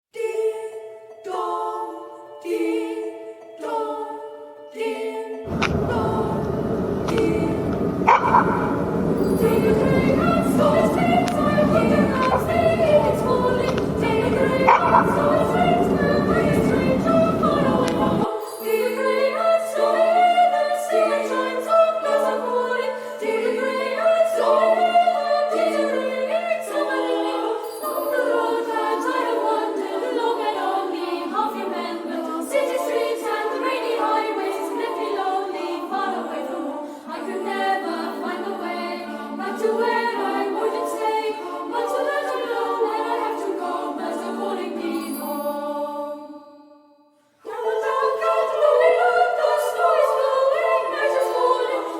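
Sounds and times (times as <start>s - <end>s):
choir singing unaccompanied: 0.1s - 51.9s.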